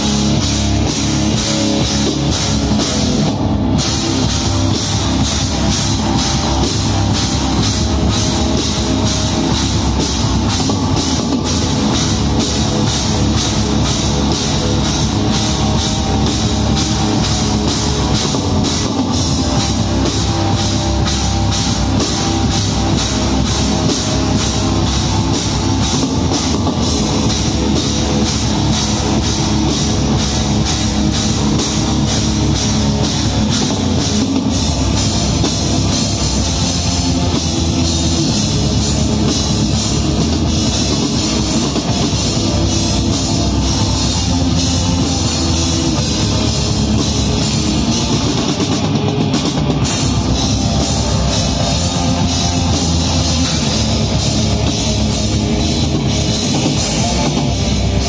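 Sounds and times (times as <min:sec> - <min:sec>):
drum strokes: 0:00.0 - 0:58.0
heavy metal band playing: 0:00.0 - 0:58.0.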